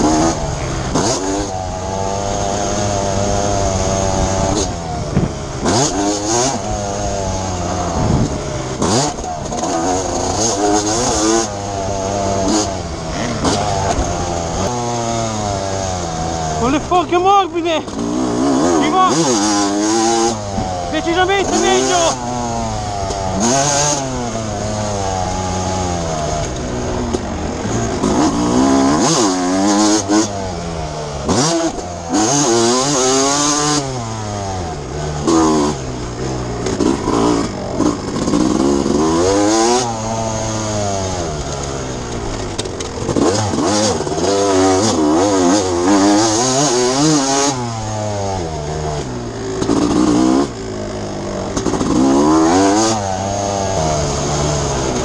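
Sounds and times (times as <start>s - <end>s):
motocross engine revving hard: 0.0s - 55.0s.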